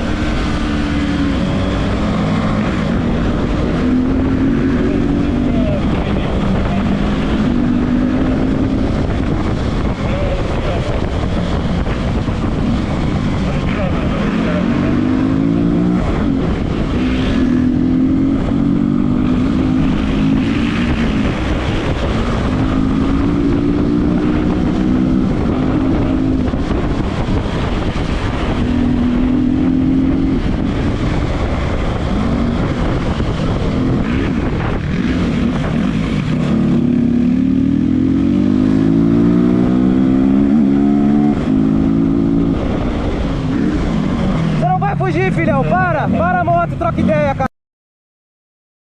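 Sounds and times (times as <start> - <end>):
motorcycle engine revving through gears: 0.0 - 44.8
wind rushing: 0.0 - 46.2.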